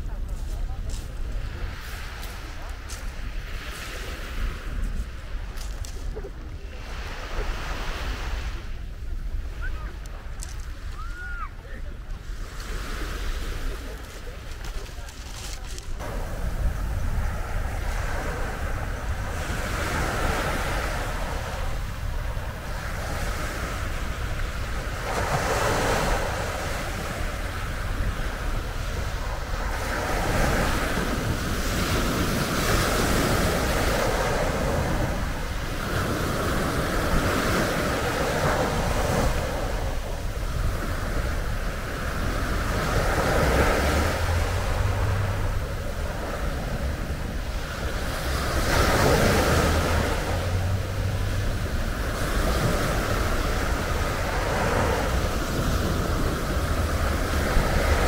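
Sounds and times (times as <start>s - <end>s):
wind rumbling on microphone: 0.0s - 58.0s
waves breaking on pebble beach: 0.1s - 58.0s.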